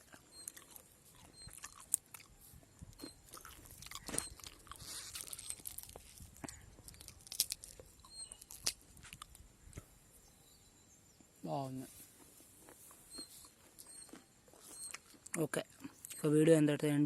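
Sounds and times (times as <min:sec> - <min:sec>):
person chewing corn crunching: 0:00.0 - 0:09.9, 0:11.9 - 0:16.3.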